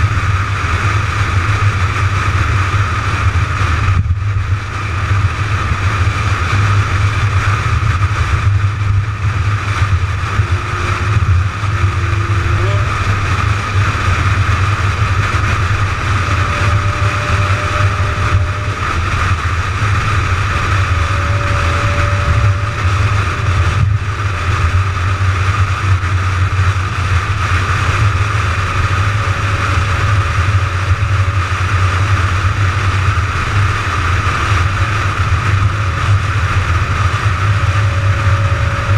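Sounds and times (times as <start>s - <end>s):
car engine and tyre drone: 0.0s - 38.9s
wind: 0.0s - 38.9s.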